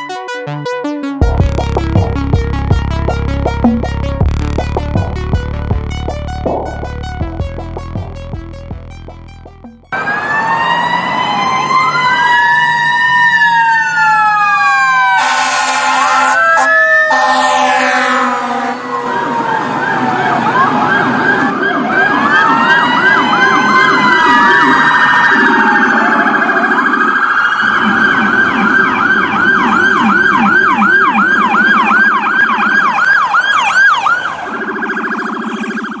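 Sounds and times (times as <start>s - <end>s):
electronic siren yelp: 0.0s - 36.0s
wailing siren: 0.0s - 36.0s.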